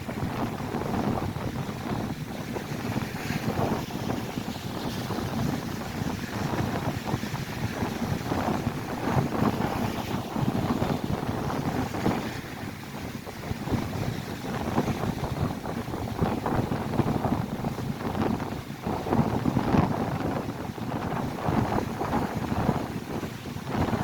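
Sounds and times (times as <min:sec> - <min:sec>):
waves breaking on shore: 0:00.0 - 0:24.0
wind buffeting microphone: 0:00.0 - 0:24.0.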